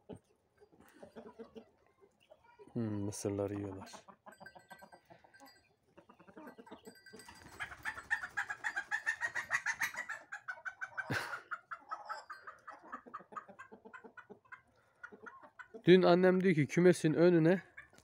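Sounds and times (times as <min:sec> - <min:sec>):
chickens clucking: 0:00.0 - 0:16.4, 0:17.3 - 0:18.0.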